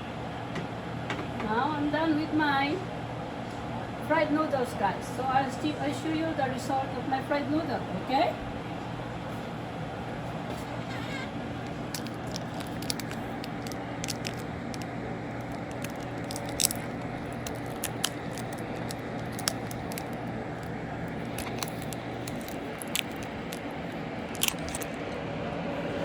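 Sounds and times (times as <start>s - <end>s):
low kitchen hum: 0.0s - 26.0s.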